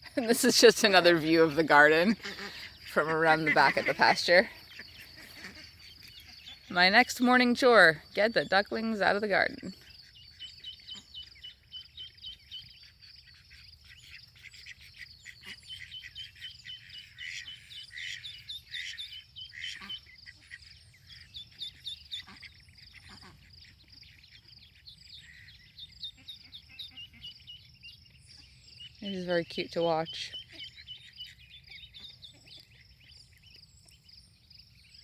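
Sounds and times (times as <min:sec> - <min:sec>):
ducklings peeping: 0:00.0 - 0:35.0.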